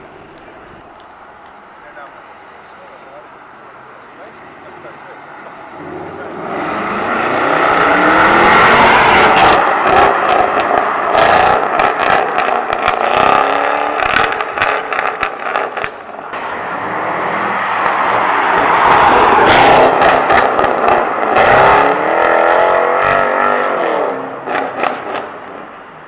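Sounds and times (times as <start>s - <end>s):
car engine revving: 4.2s - 25.5s.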